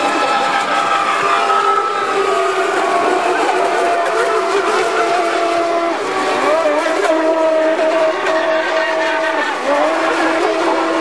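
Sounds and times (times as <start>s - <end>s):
high-pitched model boat engine whine: 0.0s - 11.0s.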